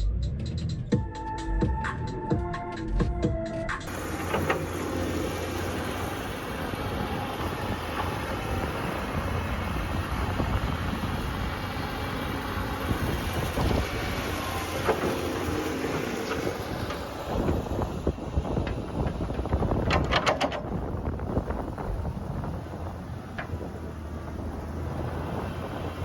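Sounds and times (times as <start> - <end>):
heavy machinery engine running: 3.8 - 26.0
wind noise on microphone: 3.9 - 26.0.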